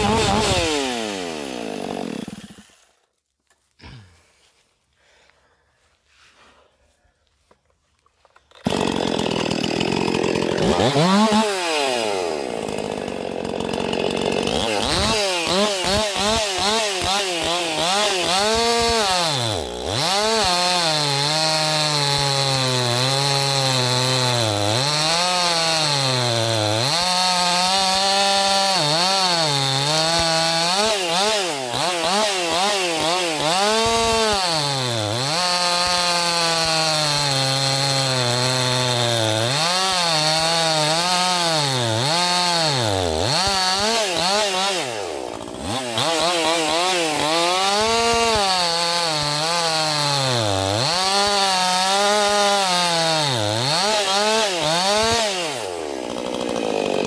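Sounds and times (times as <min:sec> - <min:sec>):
chainsaw cutting log: 0:00.0 - 0:03.1, 0:08.4 - 0:57.0.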